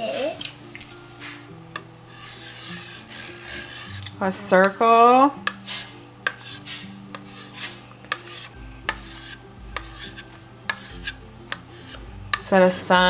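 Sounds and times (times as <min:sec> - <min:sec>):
chalk scratching on chalkboard: 0:01.2 - 0:04.8, 0:05.4 - 0:13.0
chalk tapping on board: 0:01.8 - 0:04.8, 0:05.4 - 0:13.0.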